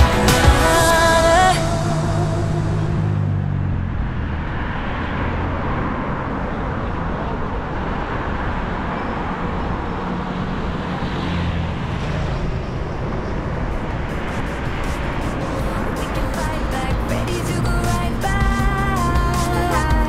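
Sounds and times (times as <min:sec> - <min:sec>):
cars passing: 0:00.0 - 0:20.0
road and wind noise: 0:00.0 - 0:20.0.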